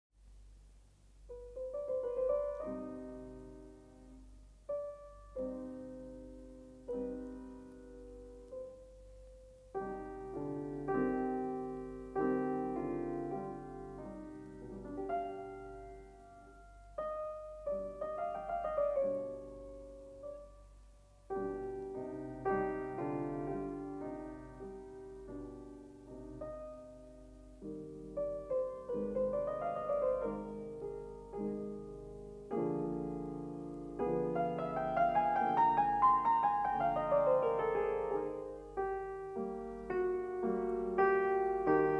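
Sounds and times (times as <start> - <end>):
solo piano piece: 0.2 - 41.9.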